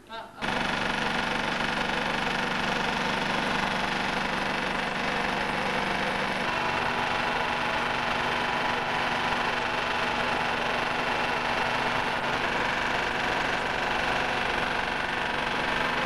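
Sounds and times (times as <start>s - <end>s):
machine humming steadily: 0.0s - 16.0s.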